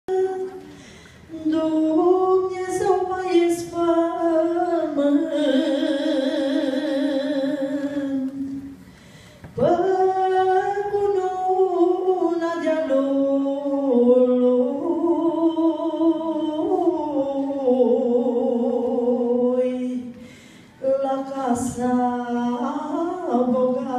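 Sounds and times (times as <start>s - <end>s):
woman singing unaccompanied: 0.0s - 0.7s, 1.3s - 8.7s, 9.6s - 20.2s, 20.8s - 23.9s.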